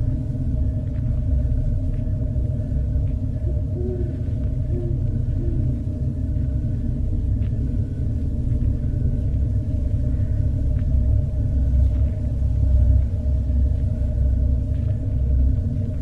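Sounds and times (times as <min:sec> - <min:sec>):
low rumble: 0:00.0 - 0:16.0
sustained droning tones: 0:00.0 - 0:16.0.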